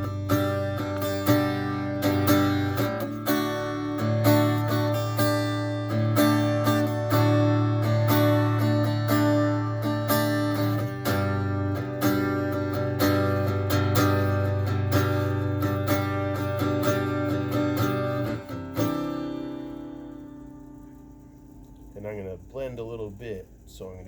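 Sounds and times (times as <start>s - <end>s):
acoustic guitar strumming chords: 0.0s - 23.4s.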